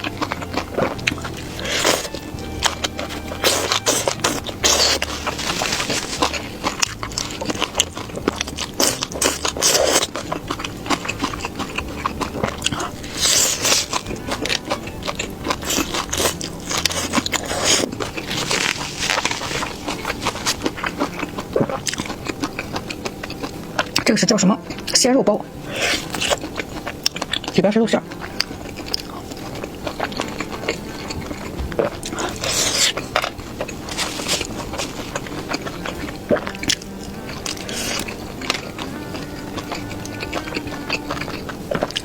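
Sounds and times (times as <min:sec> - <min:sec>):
crunchy chewing of fried food: 0:00.0 - 0:42.0.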